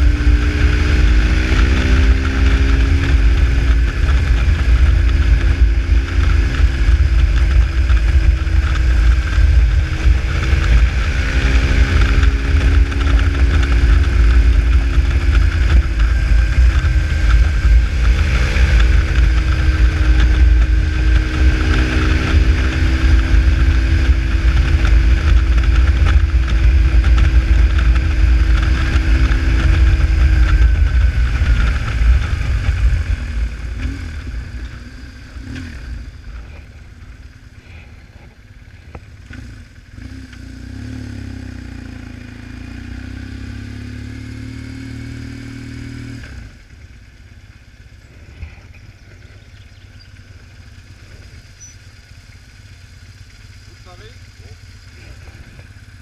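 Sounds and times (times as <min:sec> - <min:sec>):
wind rumble on microphone: 0:00.0 - 0:46.8
motorcycle engine running: 0:00.0 - 0:56.0.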